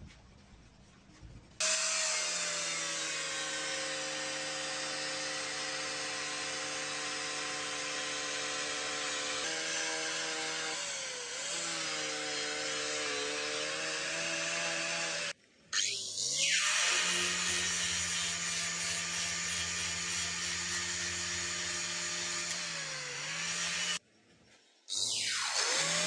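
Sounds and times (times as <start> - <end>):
angle grinder sanding metal: 1.6 - 24.0, 24.9 - 26.0.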